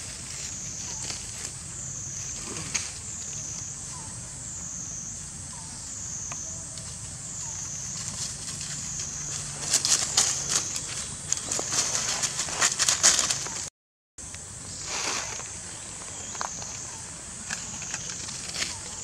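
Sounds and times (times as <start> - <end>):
high insect drone: 0.0 - 13.6, 14.2 - 19.0.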